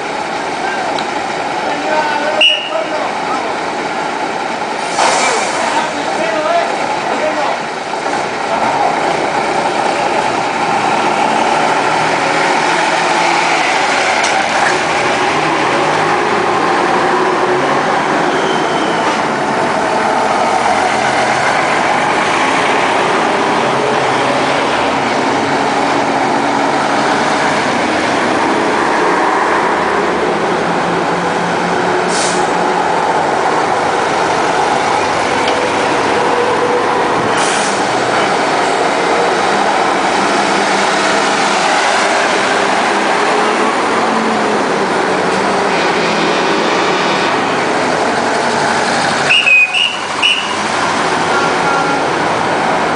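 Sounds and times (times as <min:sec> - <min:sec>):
truck engines driving past: 0:00.0 - 0:52.9.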